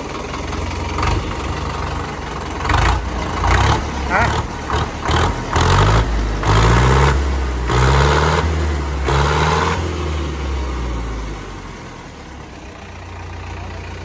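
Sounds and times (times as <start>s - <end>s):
diesel tractor engine revving: 0.0s - 14.0s.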